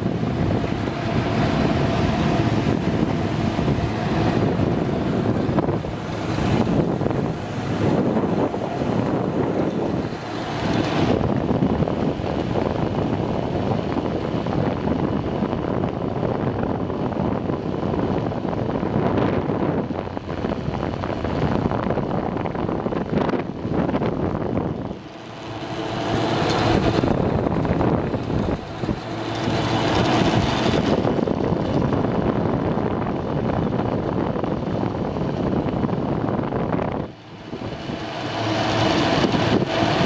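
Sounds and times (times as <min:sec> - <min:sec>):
cable car rushing along cable: 0:00.0 - 0:40.0
wind buffeting microphone: 0:00.0 - 0:40.0.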